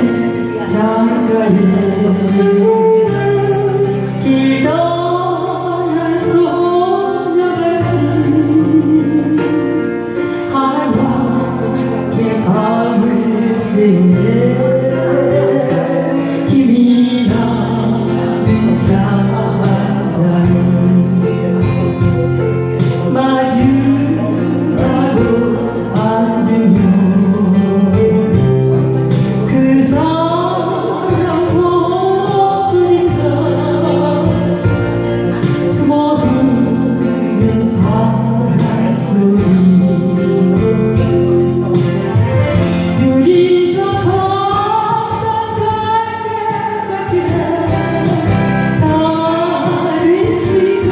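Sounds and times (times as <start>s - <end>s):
person singing a ballad: 0.0s - 50.9s
recorded backing music with beat: 0.0s - 50.9s.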